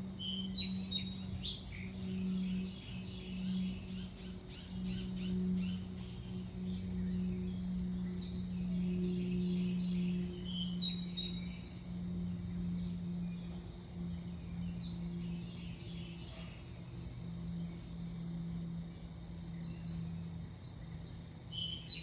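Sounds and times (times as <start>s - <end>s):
birds chirping: 0.0s - 22.0s
turboprop plane droning overhead: 0.0s - 22.0s.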